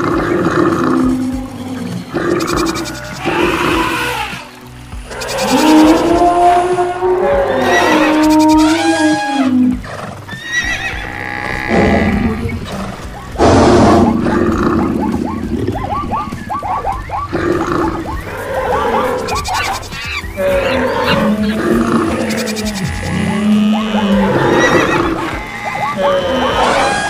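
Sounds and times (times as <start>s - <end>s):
animal calls: 0.0s - 27.0s
horses neighing: 0.0s - 27.0s.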